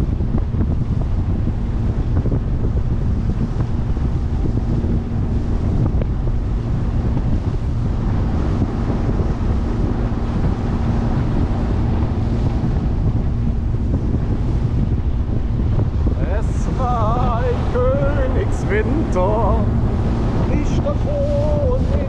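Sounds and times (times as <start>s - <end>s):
low boat engine hum: 0.0s - 22.0s
wind buffeting microphone: 0.0s - 22.0s.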